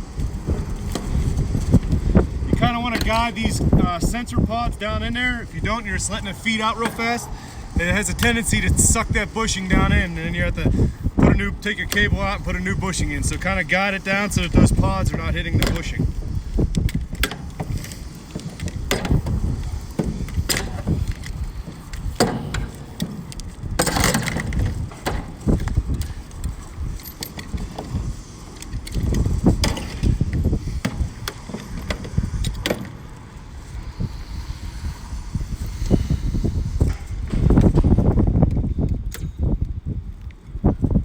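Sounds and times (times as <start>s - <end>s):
cable rattling against metal: 0.0s - 34.1s
steady low rumble: 0.0s - 41.0s.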